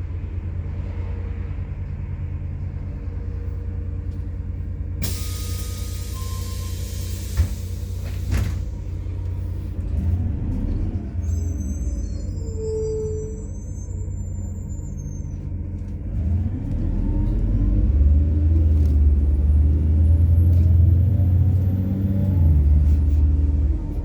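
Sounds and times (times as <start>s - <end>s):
bus engine pulling away: 0.0s - 24.0s.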